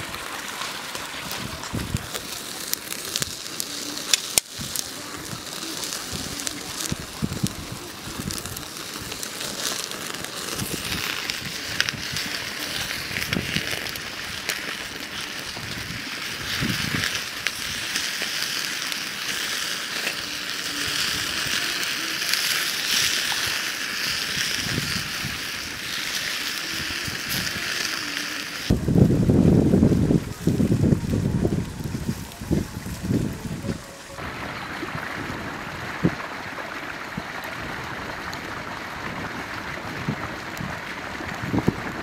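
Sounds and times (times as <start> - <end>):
wind on microphone: 0.0 - 18.4, 20.0 - 36.4, 37.1 - 42.0
wood fire crackling and hissing: 0.0 - 42.0.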